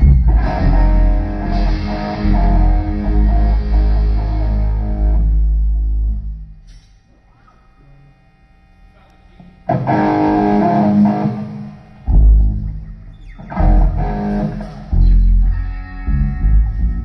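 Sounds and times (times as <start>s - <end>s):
bass guitar riff: 0.0s - 6.7s, 9.7s - 17.0s
electric guitar riff: 0.0s - 7.7s, 9.3s - 17.0s.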